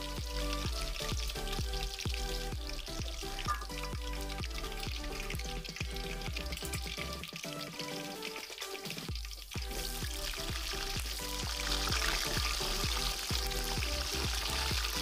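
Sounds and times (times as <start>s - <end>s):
background music with beat: 0.0s - 15.0s
hot oil sizzling: 0.0s - 15.0s.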